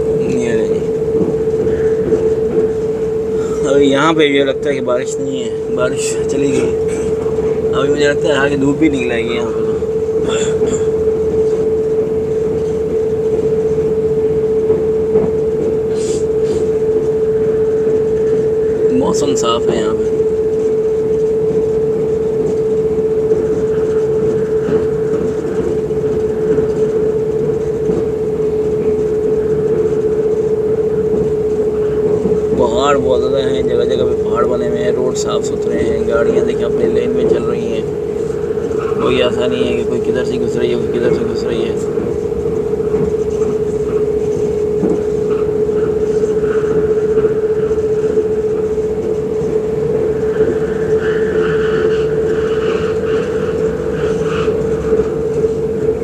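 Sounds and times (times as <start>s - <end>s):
constant humming tone: 0.0s - 56.0s
train rumbling on track: 0.0s - 56.0s.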